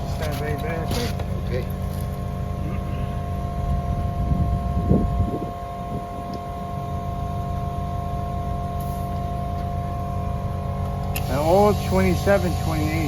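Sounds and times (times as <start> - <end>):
faint whining tones: 0.0 - 13.0
machine hum with low rumble: 0.0 - 13.0.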